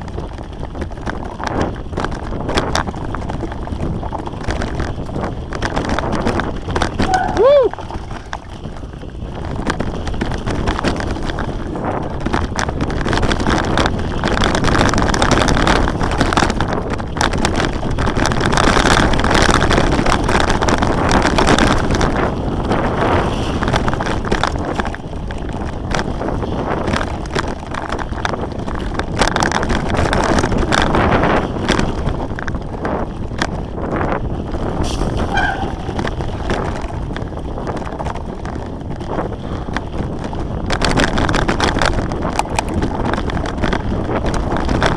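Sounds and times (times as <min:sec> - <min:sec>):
bike rattling over bumps: 0:00.0 - 0:44.9
bike tyres on dirt: 0:00.0 - 0:44.9
wind buffeting microphone: 0:00.0 - 0:44.9.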